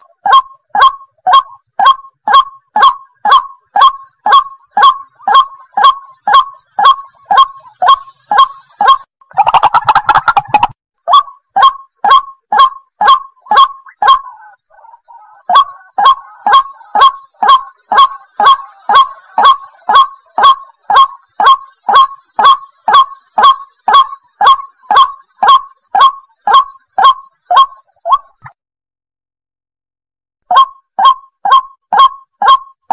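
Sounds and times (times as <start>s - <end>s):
waterhen calling: 0.0s - 10.8s, 11.6s - 28.6s.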